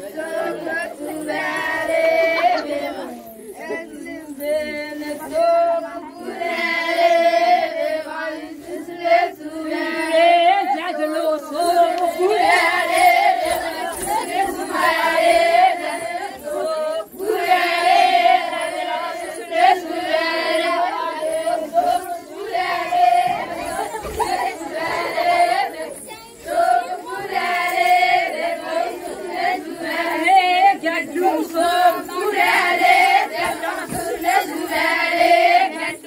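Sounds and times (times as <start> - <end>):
group singing unaccompanied: 0.0 - 36.0.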